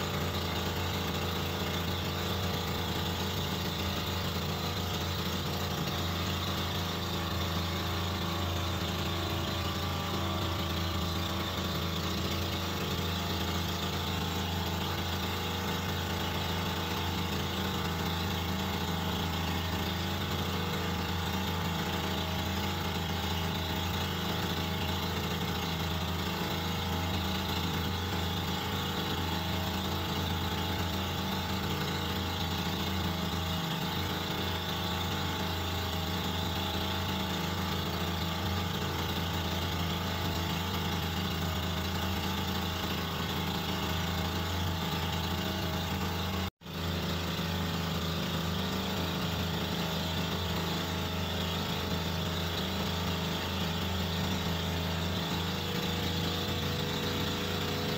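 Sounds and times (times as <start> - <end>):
boat engine humming: 0.0 - 57.9.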